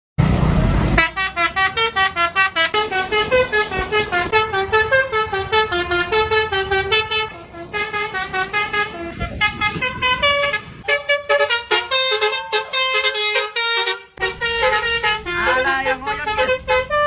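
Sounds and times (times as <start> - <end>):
musical bus horn melody: 0.9 - 17.0.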